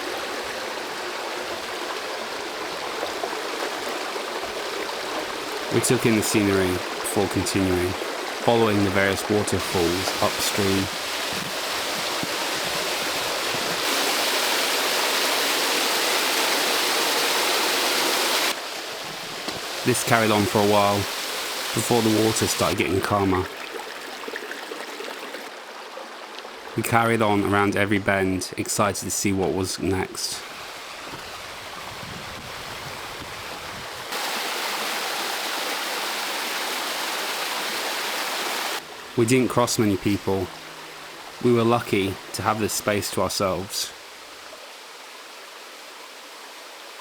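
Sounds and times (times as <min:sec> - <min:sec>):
stream rushing over waterfalls: 0:00.0 - 0:47.0.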